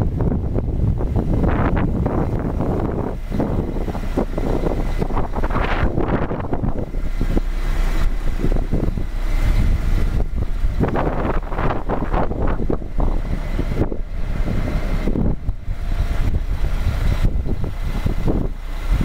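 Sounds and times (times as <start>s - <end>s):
diesel engine idling: 0.0s - 19.0s
wind buffeting microphone: 0.0s - 19.0s.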